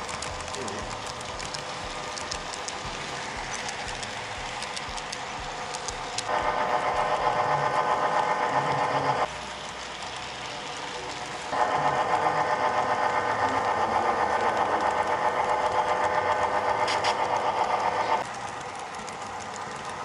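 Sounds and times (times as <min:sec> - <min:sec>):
model train motor whirring: 0:00.0 - 0:20.0.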